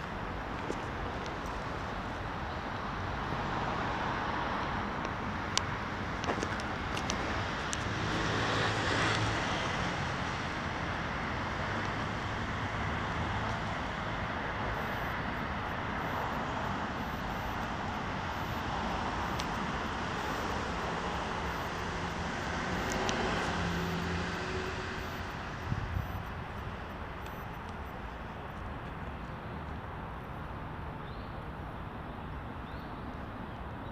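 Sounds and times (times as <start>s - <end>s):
road traffic noise: 0.0s - 33.9s.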